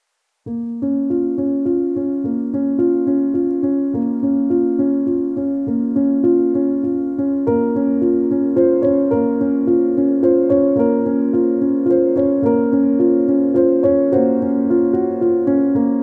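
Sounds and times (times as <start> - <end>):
instrumental background music: 0.5 - 16.0.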